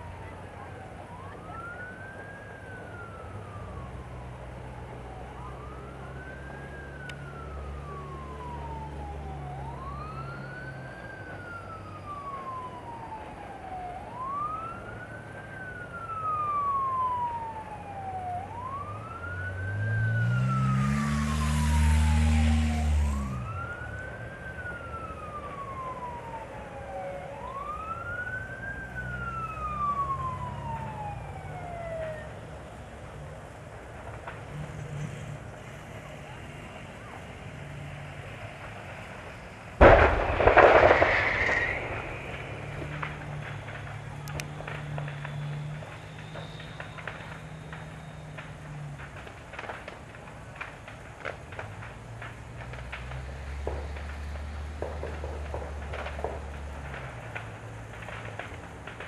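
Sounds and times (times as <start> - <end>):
emergency siren wailing: 0.0 - 59.0.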